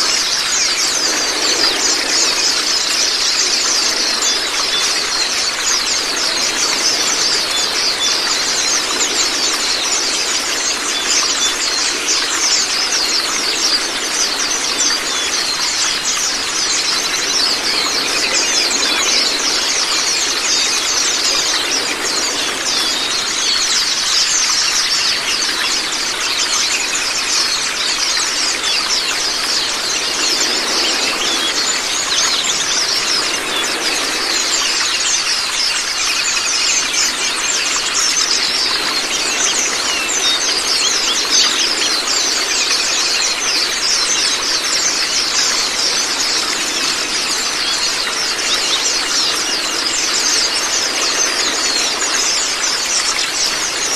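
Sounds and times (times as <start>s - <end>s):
birds chirping: 0.0s - 53.9s
running water: 0.0s - 53.9s.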